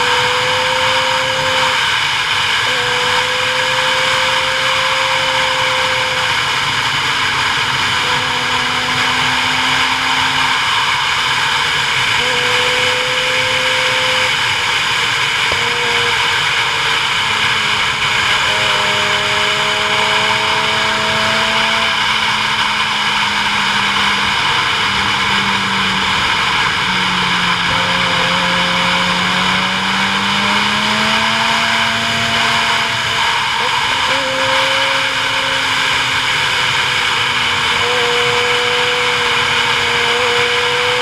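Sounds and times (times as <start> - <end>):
engine hum: 0.0 - 41.0
wind and road rush: 0.0 - 41.0.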